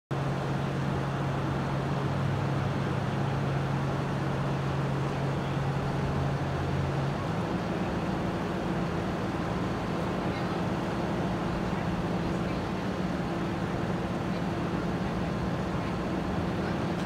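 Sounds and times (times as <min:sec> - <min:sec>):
ferry engine drone: 0:00.1 - 0:17.0
wash of noise: 0:00.1 - 0:17.0.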